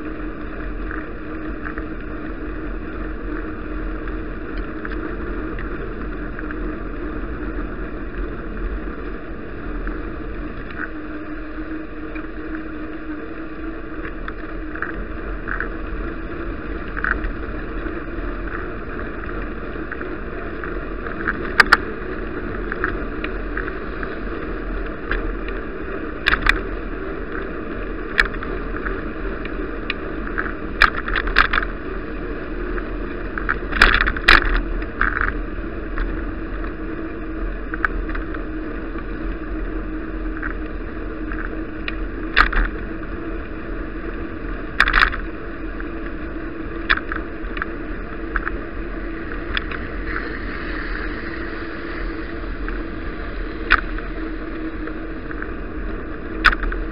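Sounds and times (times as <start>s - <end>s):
road noise: 0.0s - 56.9s
wind noise: 0.0s - 56.9s.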